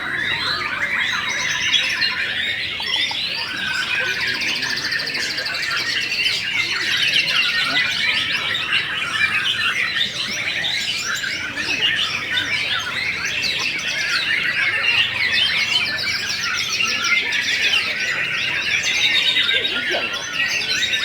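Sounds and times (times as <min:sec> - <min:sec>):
many songbirds singing: 0:00.0 - 0:21.0.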